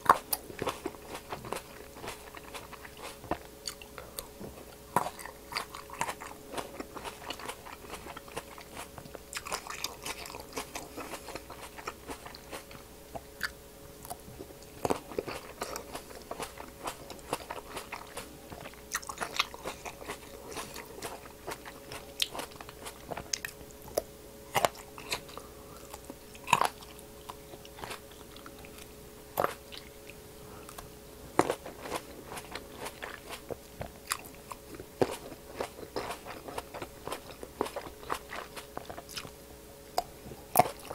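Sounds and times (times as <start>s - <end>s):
faint steady hum: 0.0s - 40.9s
grapes crunching while chewed: 0.0s - 40.9s.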